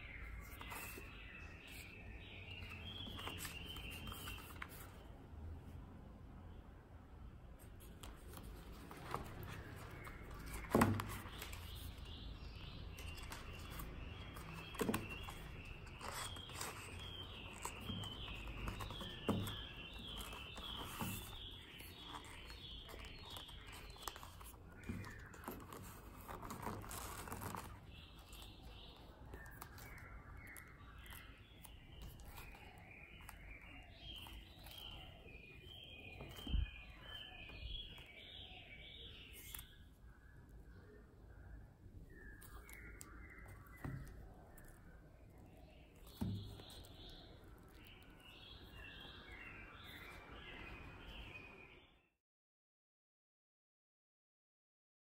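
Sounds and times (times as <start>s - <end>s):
birds chirping: 0.0s - 5.2s, 7.4s - 52.0s.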